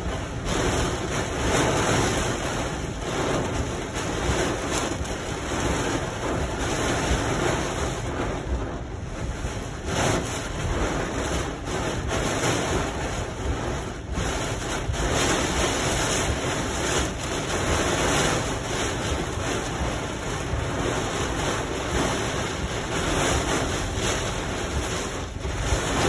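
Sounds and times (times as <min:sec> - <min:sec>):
heavy rain on car roof: 0:00.0 - 0:26.0.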